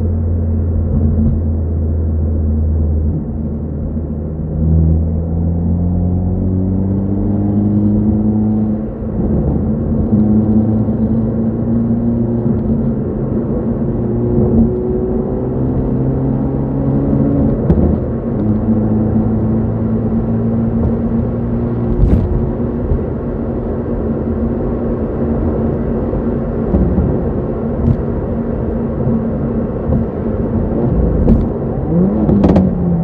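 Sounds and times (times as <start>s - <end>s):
car engine droning at high revs: 0.0s - 33.0s.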